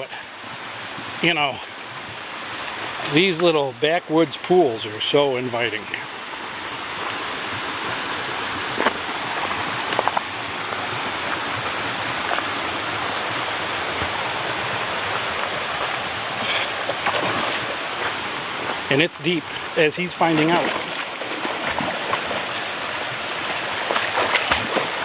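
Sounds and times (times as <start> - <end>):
stream water rushing: 0.0 - 25.0.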